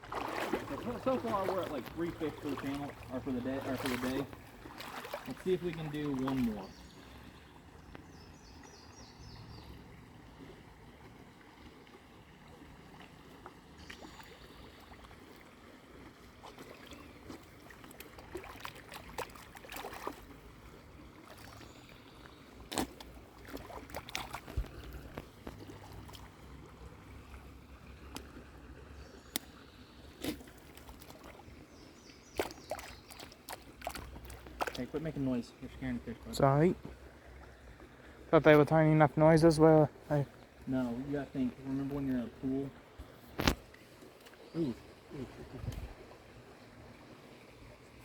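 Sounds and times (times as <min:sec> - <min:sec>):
water lapping and trickling: 0:00.0 - 0:48.0.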